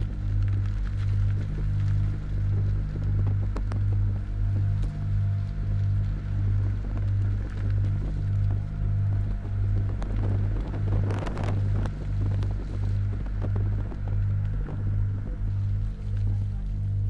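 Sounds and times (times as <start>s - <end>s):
crackles: 0.0s - 17.0s
distorted guitar drone: 0.0s - 17.0s.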